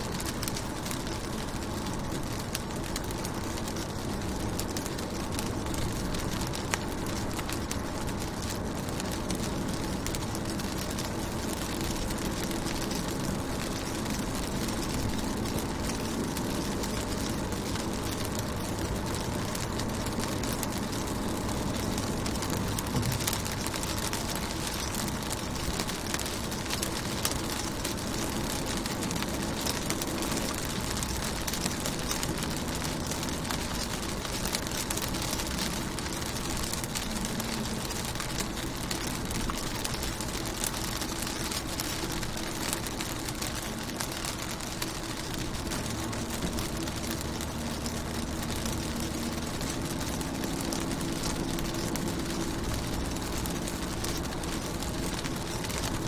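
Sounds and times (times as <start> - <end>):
low steady rumble: 0.0 - 56.0
rain hissing on a car: 0.0 - 56.0
raindrops ticking: 0.0 - 56.0.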